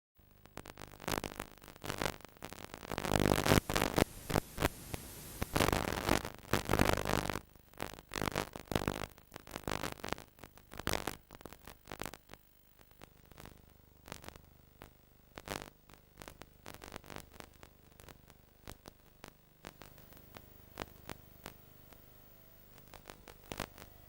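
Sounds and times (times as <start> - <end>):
crackling static hiss: 0.2 - 24.0
low mains hum: 0.2 - 24.0.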